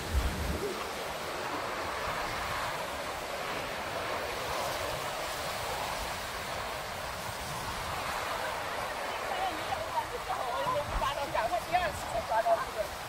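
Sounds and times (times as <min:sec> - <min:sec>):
waves washing onto rocky shore: 0:00.0 - 0:13.0
wind: 0:00.0 - 0:13.0
wind buffeting microphone: 0:00.0 - 0:13.0.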